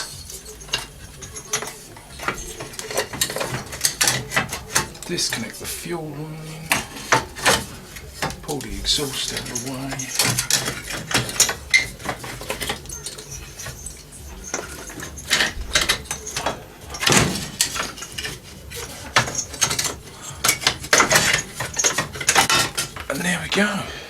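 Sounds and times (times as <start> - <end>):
tools and metal parts clinking: 0.0 - 23.4.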